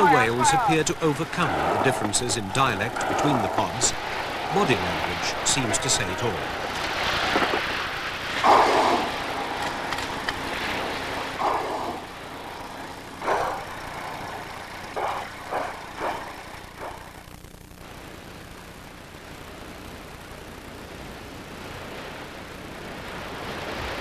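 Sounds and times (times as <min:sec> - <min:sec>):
steady background rumble: 0:00.0 - 0:24.0.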